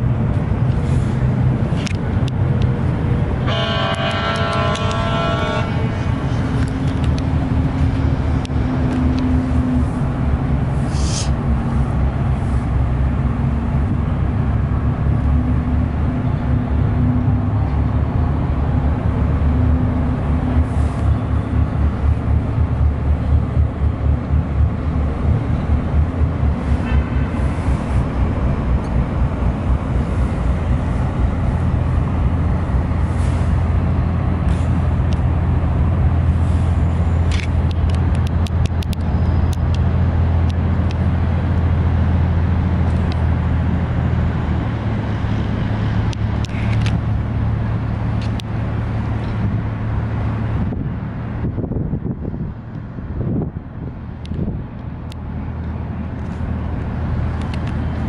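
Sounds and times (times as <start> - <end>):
boat diesel engines droning: 0.0 - 58.0.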